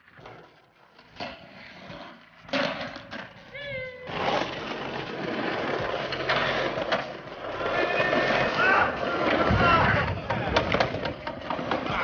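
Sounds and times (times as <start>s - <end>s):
skateboard clack: 0.0s - 12.0s
skateboard wheels rolling on concrete: 0.0s - 12.0s.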